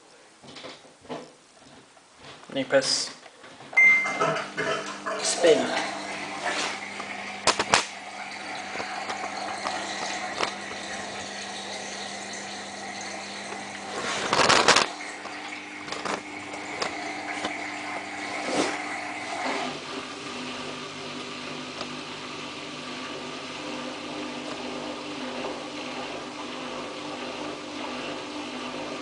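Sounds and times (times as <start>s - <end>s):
washing machine humming: 3.4s - 29.0s.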